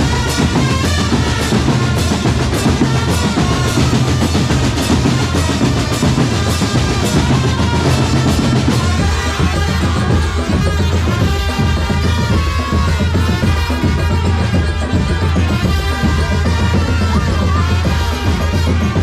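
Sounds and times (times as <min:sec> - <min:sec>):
bass drum beats: 0:00.0 - 0:19.0
drum corps playing: 0:00.0 - 0:19.0
snare drum rolls: 0:00.0 - 0:19.0.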